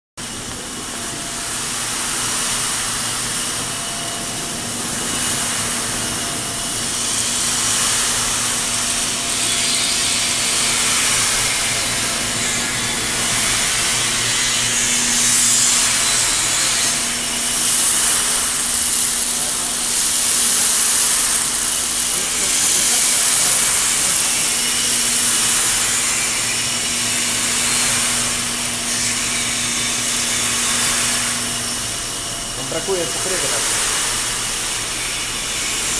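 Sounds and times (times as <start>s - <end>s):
coffee roaster low hum: 0.2s - 35.9s.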